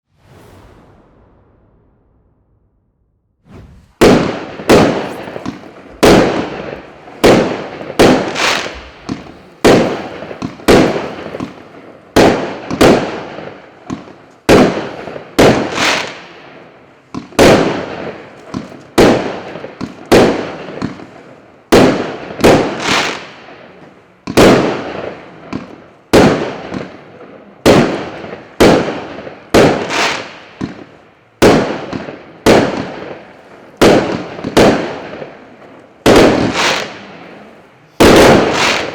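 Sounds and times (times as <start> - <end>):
firework shots banging: 3.4 - 38.9.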